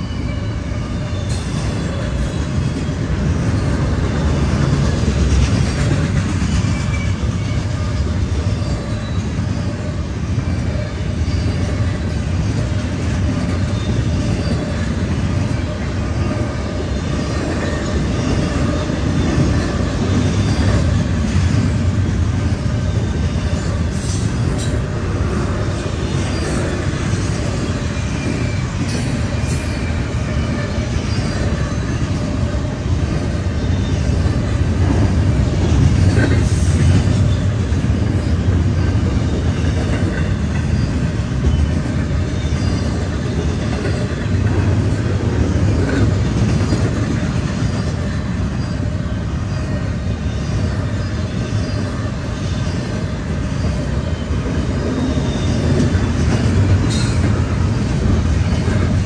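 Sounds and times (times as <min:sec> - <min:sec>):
freight train wheels rumbling: 0:00.0 - 0:59.0
train clickety-clack: 0:00.0 - 0:59.0.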